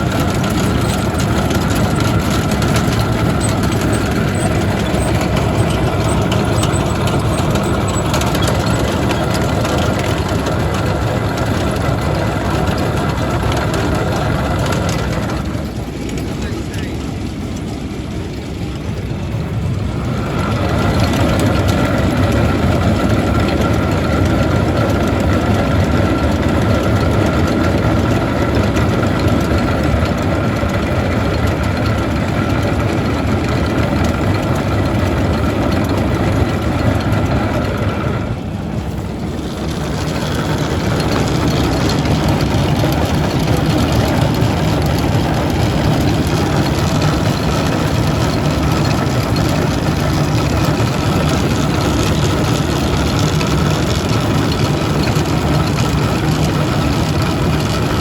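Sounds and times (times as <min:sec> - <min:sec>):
high machinery whine: 0:00.0 - 0:58.0
tractor engine drone: 0:00.0 - 0:58.0.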